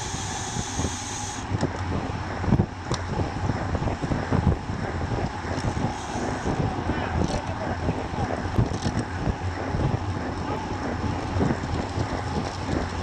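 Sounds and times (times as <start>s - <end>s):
bicycle tyres on asphalt: 0.0s - 13.0s
wind buffeting microphone: 0.0s - 13.0s.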